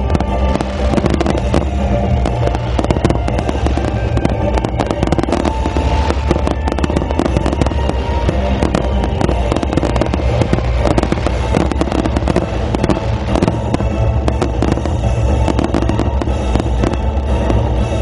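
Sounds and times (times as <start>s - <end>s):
continuous low rumble: 0.0s - 18.0s
fireworks bangs and crackles: 0.0s - 18.0s.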